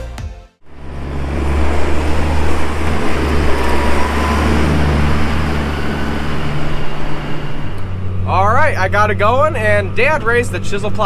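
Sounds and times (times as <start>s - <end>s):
tractor diesel engine running: 0.6s - 11.0s.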